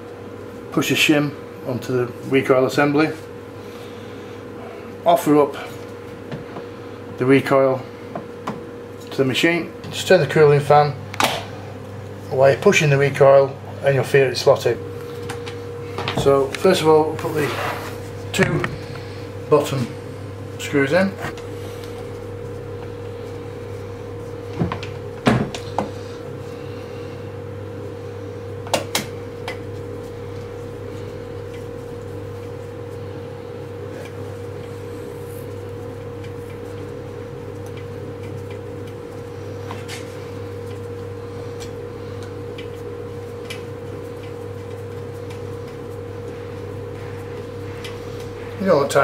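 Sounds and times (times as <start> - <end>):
steady background hum: 0.0 - 49.0.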